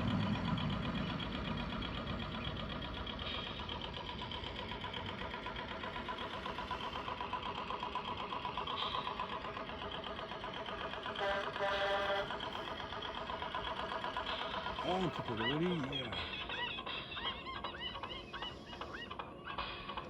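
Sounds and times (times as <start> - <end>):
simulated diesel engine from loudspeaker: 0.0 - 20.0.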